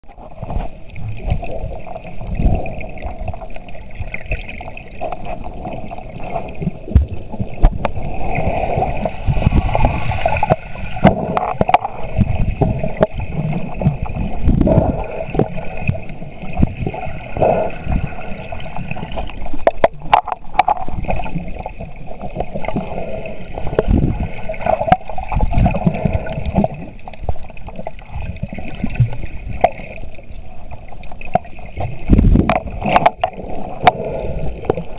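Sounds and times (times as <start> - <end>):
muffled underwater water sloshing: 0.0 - 34.9.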